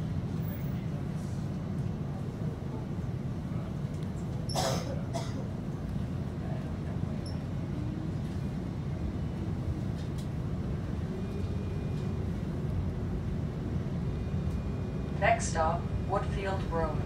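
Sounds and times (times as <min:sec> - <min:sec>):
streetcar rumbling on track: 0:00.0 - 0:17.0.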